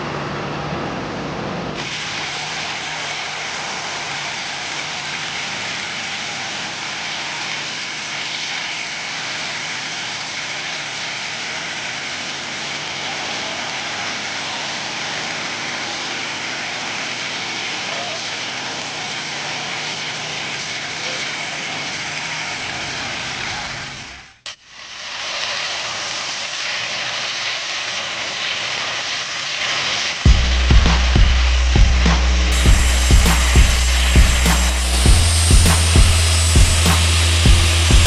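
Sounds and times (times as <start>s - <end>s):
jet engine rushing with whine: 0.0s - 24.2s, 25.1s - 38.0s.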